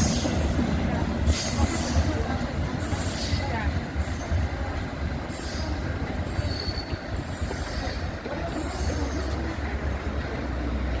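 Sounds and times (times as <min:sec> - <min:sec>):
train wheel squeal: 0:00.0 - 0:04.6, 0:05.2 - 0:10.2
freight train rumbling on rails: 0:00.0 - 0:11.0.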